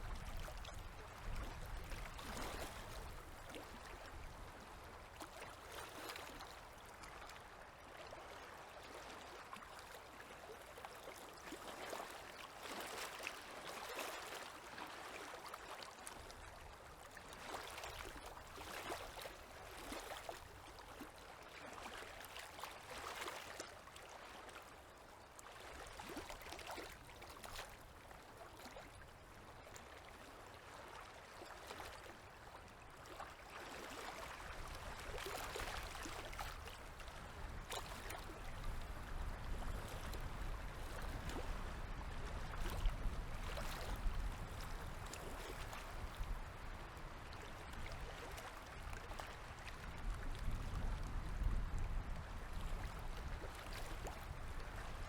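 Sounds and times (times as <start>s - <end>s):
river waves lapping on shore: 0.0s - 55.0s.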